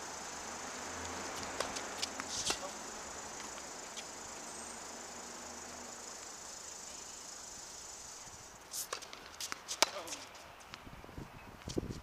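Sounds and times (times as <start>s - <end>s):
high-pitched hiss: 0.0s - 10.5s.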